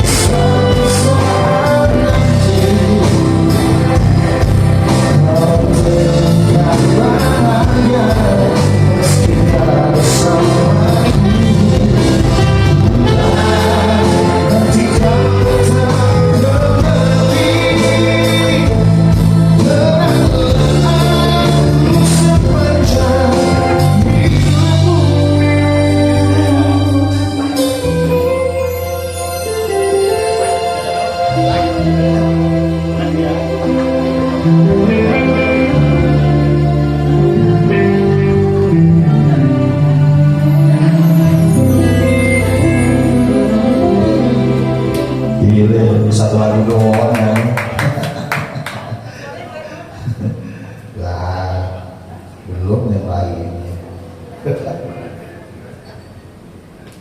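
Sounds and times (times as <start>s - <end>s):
person singing: 0.0s - 49.4s
live band playing: 0.0s - 51.0s.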